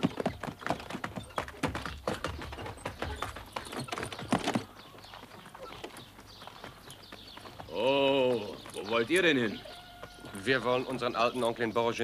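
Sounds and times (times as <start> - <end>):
horse hooves clip-clopping: 0.0 - 11.7.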